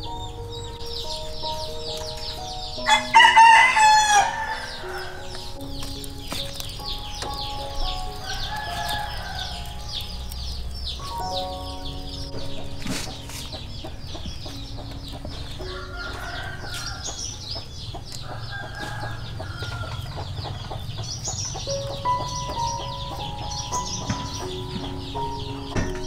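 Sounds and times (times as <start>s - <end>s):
chickens clucking: 0.0s - 26.0s
high peeping chirps: 0.0s - 26.0s.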